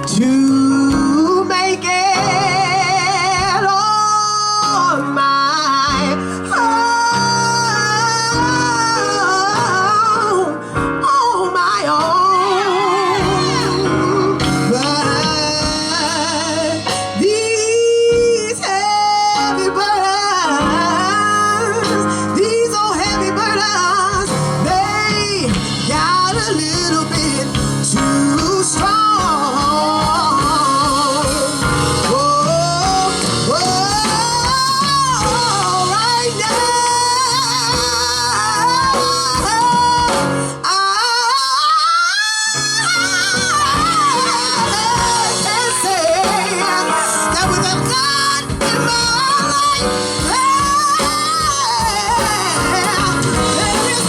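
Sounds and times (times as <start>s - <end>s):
instrumental backing: 0.0s - 54.0s
voices singing gospel: 0.0s - 54.0s.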